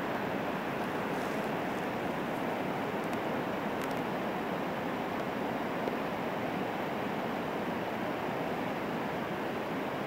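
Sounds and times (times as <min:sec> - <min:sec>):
river rapids rushing: 0:00.0 - 0:10.0.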